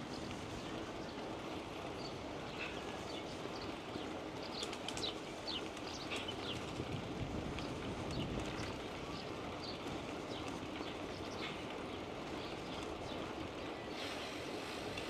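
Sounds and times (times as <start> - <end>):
wind and riding noise: 0.0 - 15.0
small birds chirping: 0.1 - 15.0.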